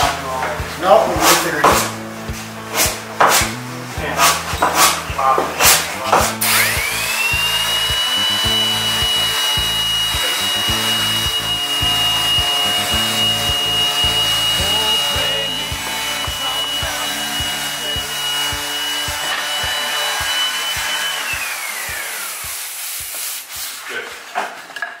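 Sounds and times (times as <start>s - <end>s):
background music with beat: 0.0s - 24.3s
electric sander whining: 2.0s - 23.1s.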